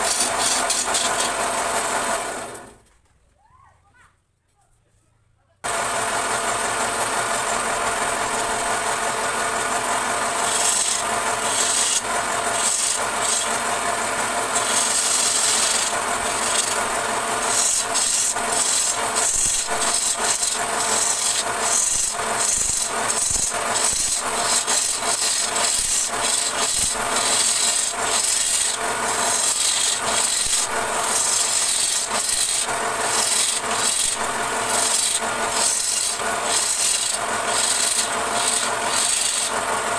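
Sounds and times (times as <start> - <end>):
chisel scraping wood on lathe: 0.0 - 2.7, 5.7 - 39.9.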